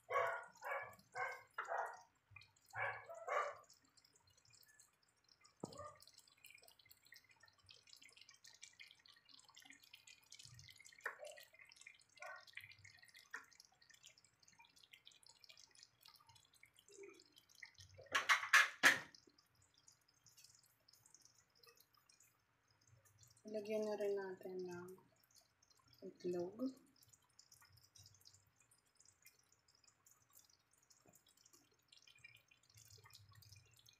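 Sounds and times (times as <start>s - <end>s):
pot simmering with bubbling pops: 0.0s - 33.9s.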